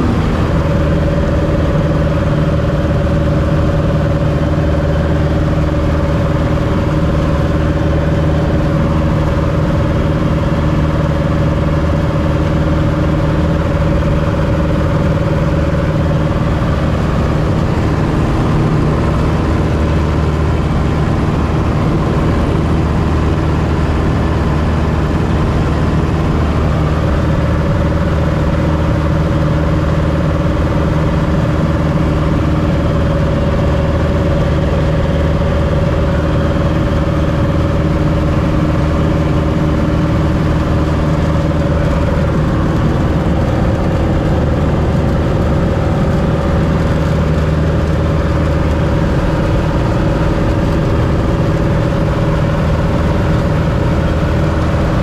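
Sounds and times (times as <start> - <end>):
light airplane engine droning: 0.0 - 55.0.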